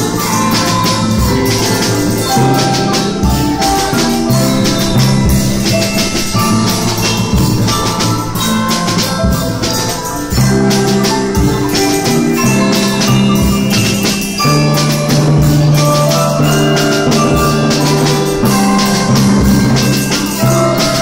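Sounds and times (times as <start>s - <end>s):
drum and cymbal strokes: 0.0s - 21.0s
marimba and xylophone ensemble: 0.0s - 21.0s.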